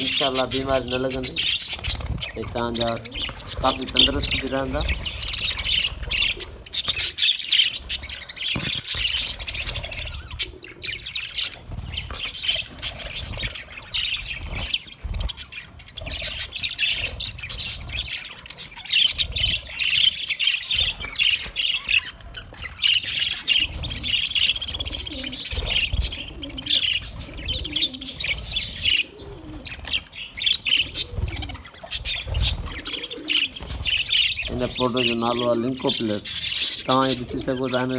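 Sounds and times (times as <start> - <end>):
budgerigars chattering and chirping: 0.0 - 37.9.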